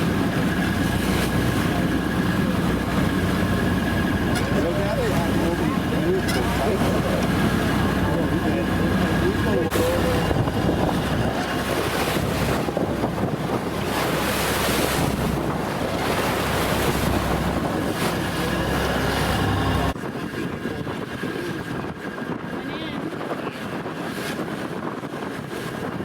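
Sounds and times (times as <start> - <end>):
boat engine running: 0.0 - 26.0
waves rushing against hull: 0.0 - 26.0
wind buffeting microphone: 0.0 - 26.0.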